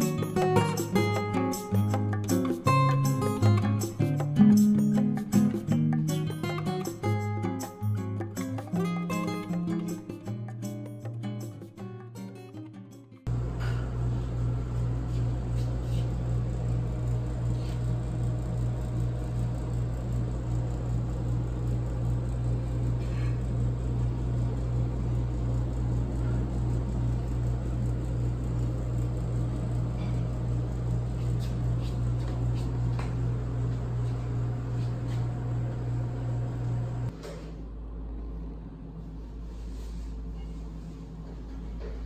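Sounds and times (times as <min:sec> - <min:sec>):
refrigerated display case humming: 0:00.0 - 0:10.5, 0:13.3 - 0:42.0.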